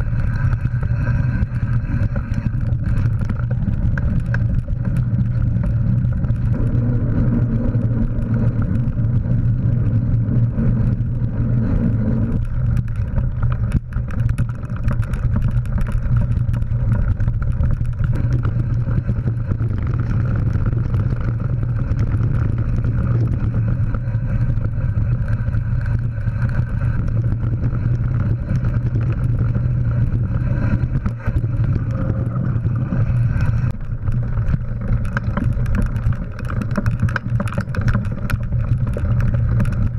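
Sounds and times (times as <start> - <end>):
bike rattling over bumps: 0.0 - 39.9
rumble of wind and tyres: 0.0 - 39.9.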